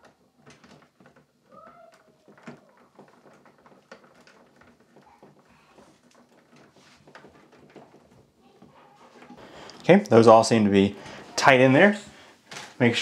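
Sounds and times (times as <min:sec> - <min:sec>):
wires twisting clicks and rustling: 0:00.0 - 0:13.0.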